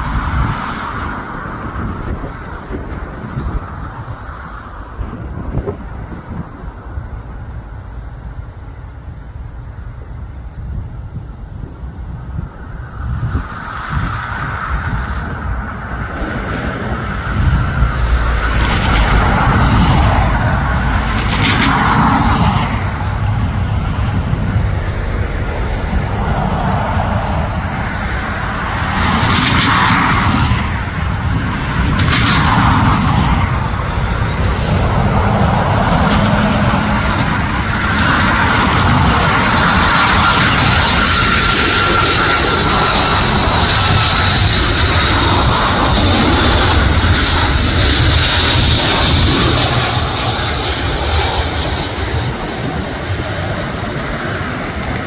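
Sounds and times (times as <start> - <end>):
jet engines rumbling: 0.0 - 55.0
high-pitched whine: 0.1 - 55.0.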